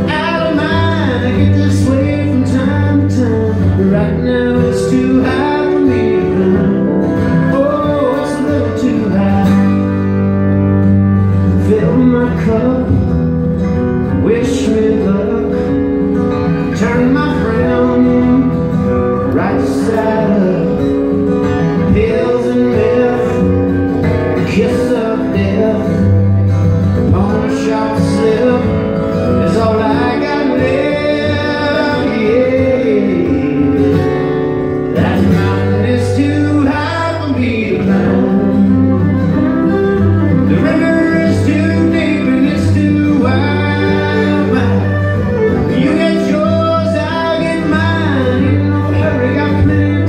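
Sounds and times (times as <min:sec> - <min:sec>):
man singing: 0:00.0 - 0:10.4, 0:11.5 - 0:50.0
acoustic guitars strumming: 0:00.0 - 0:50.0
fiddle: 0:04.2 - 0:50.0.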